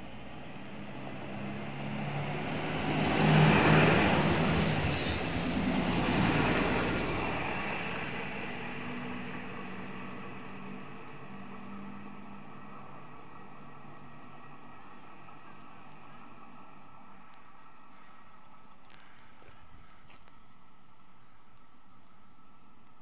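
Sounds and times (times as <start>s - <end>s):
diesel railcar engine drone: 0.0s - 23.0s.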